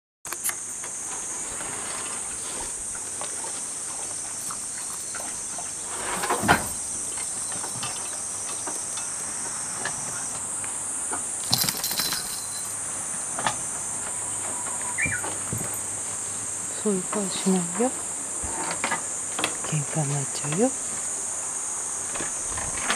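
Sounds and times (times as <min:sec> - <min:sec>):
insects droning: 0:00.3 - 0:22.9.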